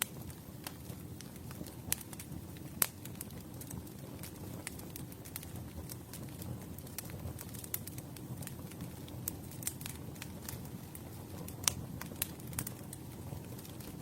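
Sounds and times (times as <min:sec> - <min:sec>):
campfire low rumble: 0:00.0 - 0:14.0
wood crackling and popping: 0:00.0 - 0:14.0.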